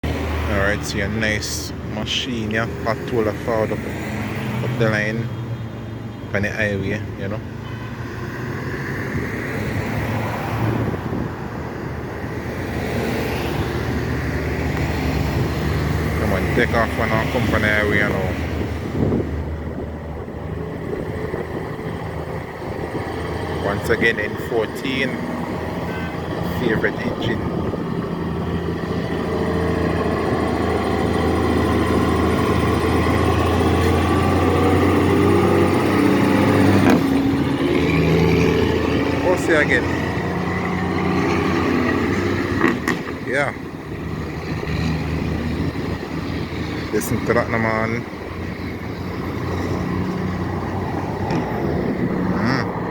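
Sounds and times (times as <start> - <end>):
truck engine drone: 0.0 - 52.9
tyre and road noise: 0.0 - 52.9.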